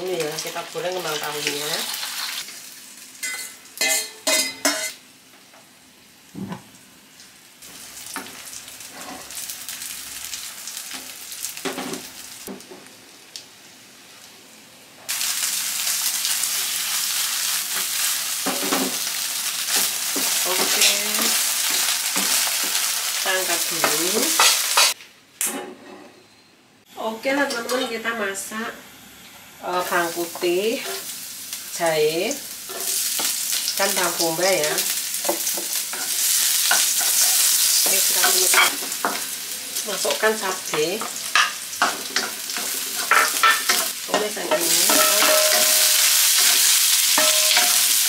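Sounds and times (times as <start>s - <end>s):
food sizzling in oil: 0.0s - 5.2s, 6.7s - 14.4s, 15.1s - 25.0s, 29.0s - 48.0s.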